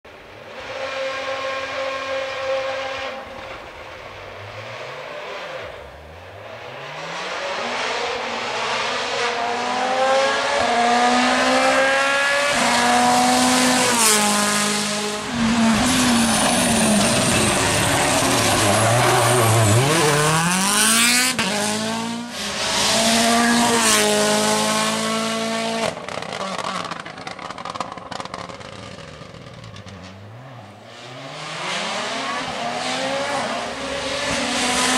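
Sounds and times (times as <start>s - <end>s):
rally car engine revving: 0.5s - 34.9s.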